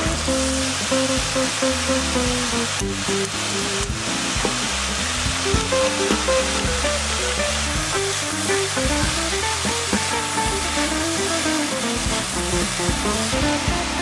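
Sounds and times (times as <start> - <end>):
food sizzling in a hot pan: 0.0 - 14.0.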